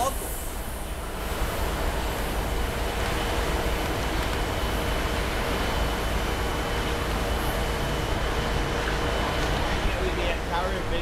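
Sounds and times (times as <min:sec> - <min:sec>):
distant freight train rumble: 0:00.0 - 0:11.0
faint steady whine: 0:00.0 - 0:11.0
highway traffic: 0:00.0 - 0:11.0.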